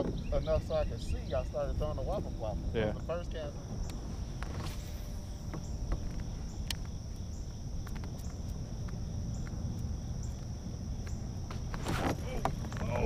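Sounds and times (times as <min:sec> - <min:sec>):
wind and water rumble: 0:00.0 - 0:13.0
high-pitched insect drone: 0:00.2 - 0:13.0.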